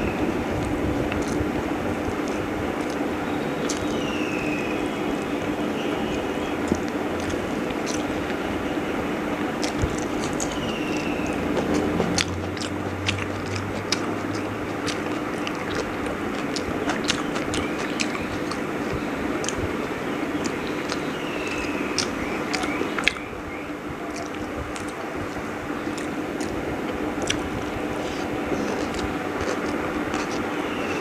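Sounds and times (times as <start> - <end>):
person chewing food: 0.0 - 8.5, 9.2 - 23.3, 24.1 - 31.0
background hiss and hum: 0.0 - 31.0.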